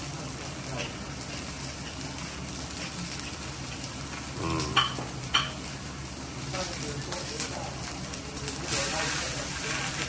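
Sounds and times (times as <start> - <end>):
steak sizzling on griddle: 0.0 - 10.0.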